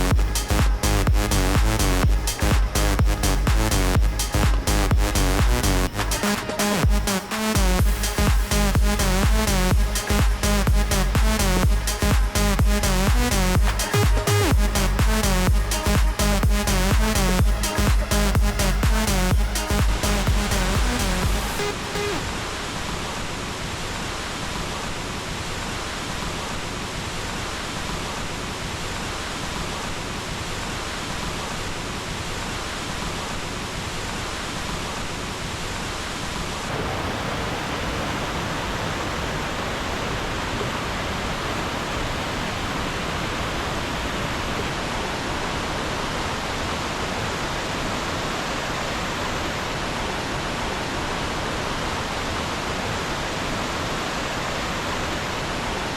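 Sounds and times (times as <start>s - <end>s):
waterfall rushing: 0.1s - 27.8s, 35.2s - 55.9s.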